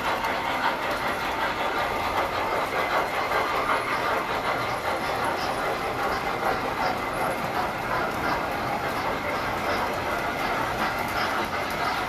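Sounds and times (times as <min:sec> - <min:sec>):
model train wheels clattering: 0:00.0 - 0:12.0.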